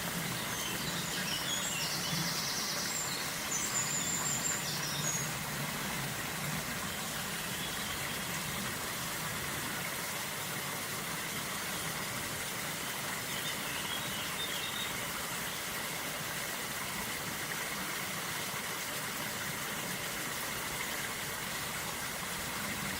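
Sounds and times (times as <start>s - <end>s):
river water flowing: 0.0s - 22.9s.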